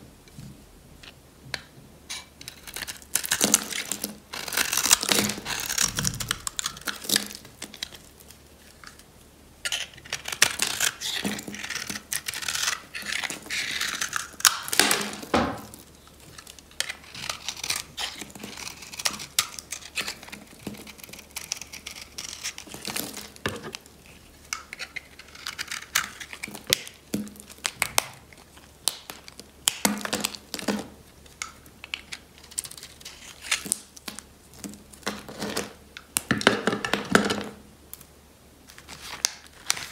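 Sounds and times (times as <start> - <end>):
knife crunching and scraping soap: 2.1 - 36.9.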